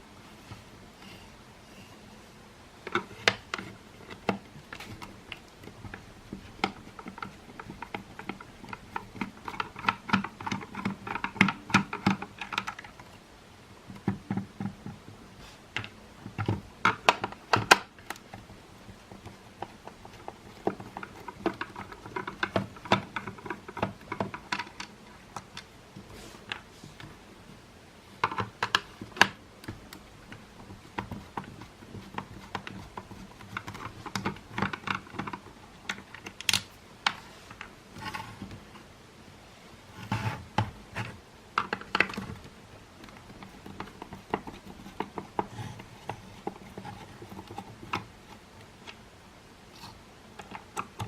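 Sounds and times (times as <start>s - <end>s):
plastic parts clicking and rattling: 2.8s - 13.2s, 13.8s - 27.2s, 28.1s - 38.8s, 40.0s - 49.0s, 49.8s - 51.0s.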